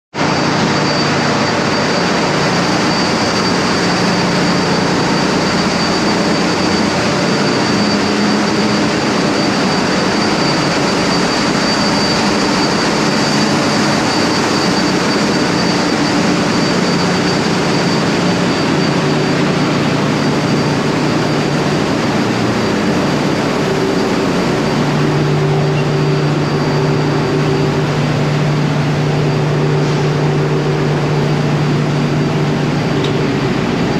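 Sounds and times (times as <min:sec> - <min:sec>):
engine room machinery din: 0:00.1 - 0:33.9
faint high whine: 0:00.2 - 0:33.9.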